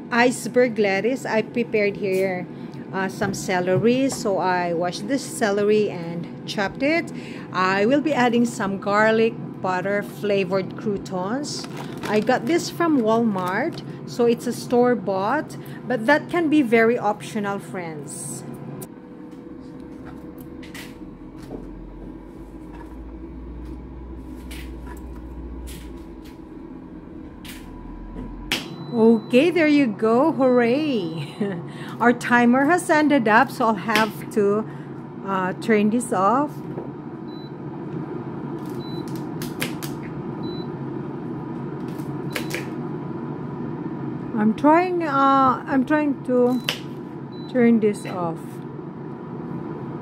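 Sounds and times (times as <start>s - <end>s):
air fryer humming: 0.0s - 50.0s.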